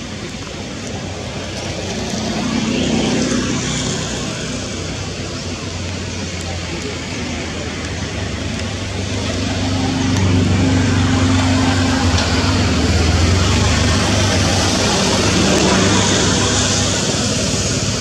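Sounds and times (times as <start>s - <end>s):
broad rushing noise: 0.0s - 18.0s
engine humming: 0.0s - 18.0s.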